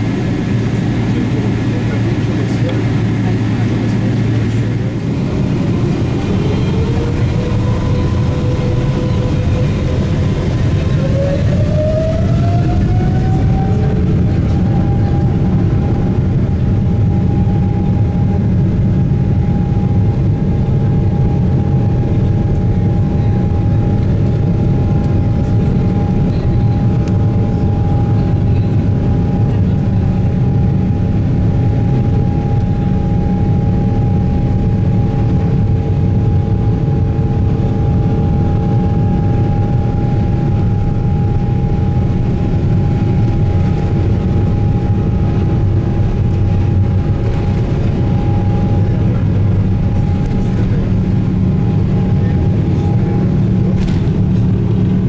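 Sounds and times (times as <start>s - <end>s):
jet engine rumble: 0.0s - 55.0s
jet engine whine: 0.0s - 55.0s.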